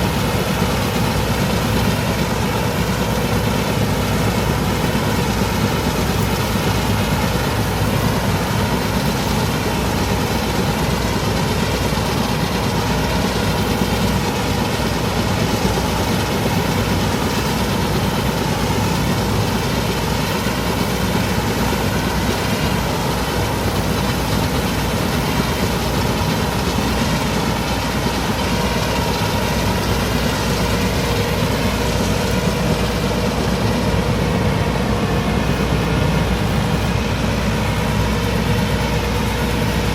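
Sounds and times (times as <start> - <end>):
straw chopper running: 0.0 - 39.9
tractor diesel engine running: 0.0 - 39.9.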